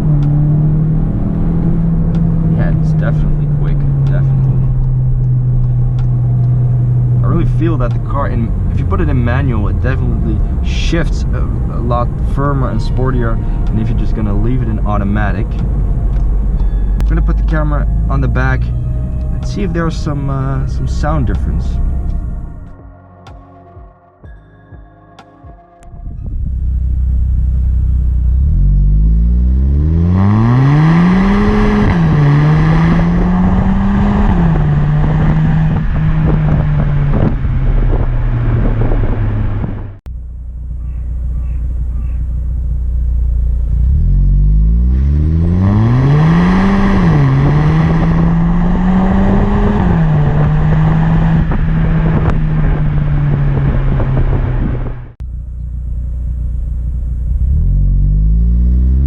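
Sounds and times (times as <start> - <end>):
car exhaust accelerating hard: 0.0 - 22.8, 25.8 - 59.0.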